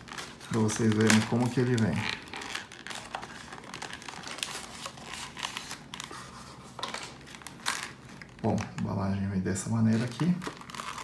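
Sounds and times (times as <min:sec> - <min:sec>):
cardboard and plastic crinkling: 0:00.0 - 0:11.0.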